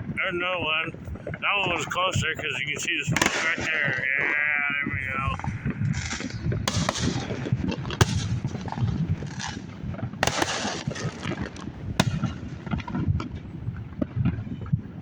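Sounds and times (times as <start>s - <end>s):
fireworks crackling pops: 0.0s - 15.0s
loud firework bangs: 0.0s - 15.0s.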